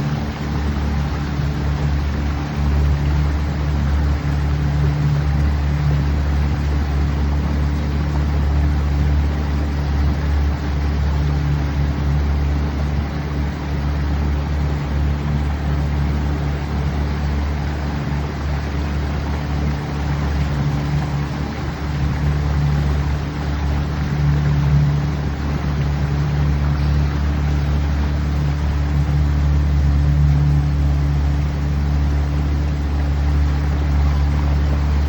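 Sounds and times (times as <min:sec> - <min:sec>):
boat motor running: 0:00.0 - 0:35.0
rush of wind and water: 0:00.0 - 0:35.0.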